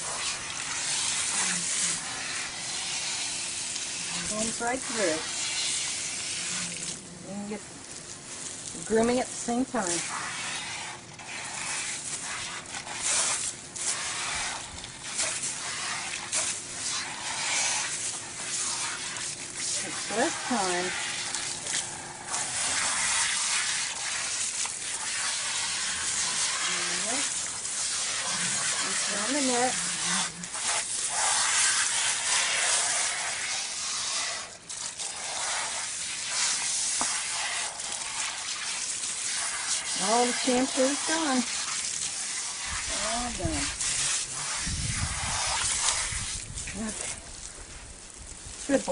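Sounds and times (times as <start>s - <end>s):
water spraying through dog coat: 0.0s - 48.9s.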